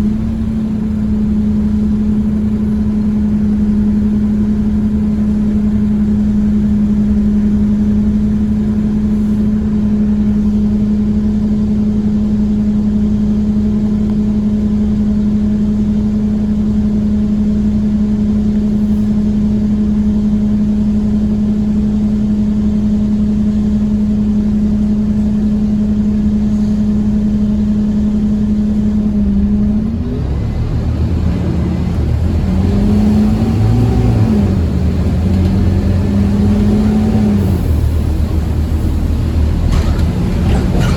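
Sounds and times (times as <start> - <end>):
bus engine running: 0.0 - 40.9.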